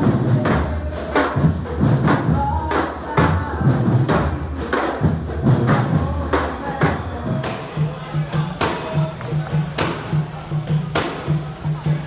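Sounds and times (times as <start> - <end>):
street drum band playing: 0.0 - 12.0.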